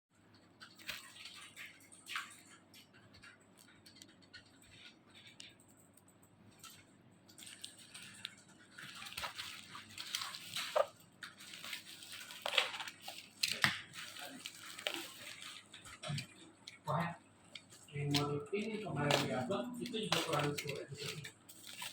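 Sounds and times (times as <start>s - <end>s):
packaging crinkling and rustling: 0.6s - 5.6s, 6.6s - 16.8s, 17.4s - 21.9s.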